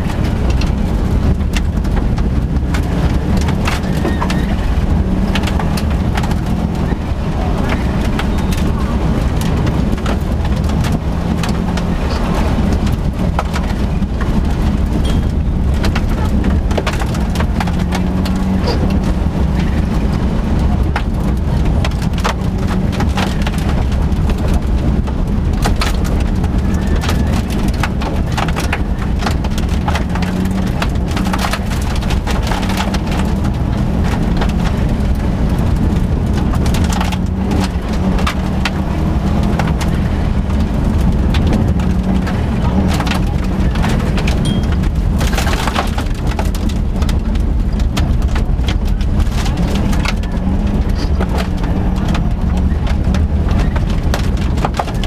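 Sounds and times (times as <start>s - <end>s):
gravel hitting car underbody: 0.0s - 55.0s
rally car engine under load: 0.0s - 55.0s.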